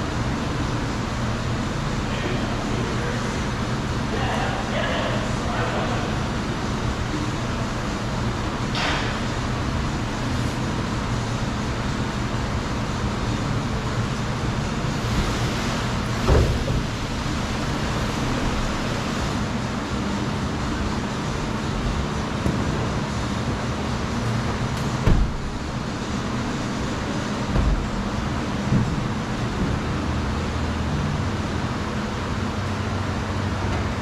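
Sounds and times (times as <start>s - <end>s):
low mechanical hum with hiss: 0.0s - 34.0s.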